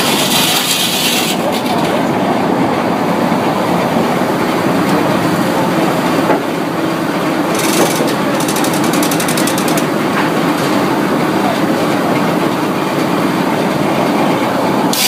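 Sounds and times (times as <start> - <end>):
sawmill machinery running: 0.0 - 15.0.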